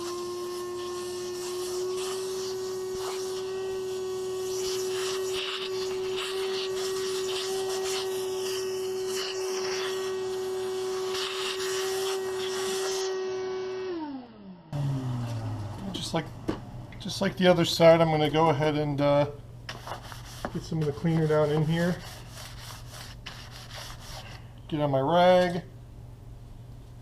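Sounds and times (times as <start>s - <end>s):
shop vac running: 0.0s - 25.7s.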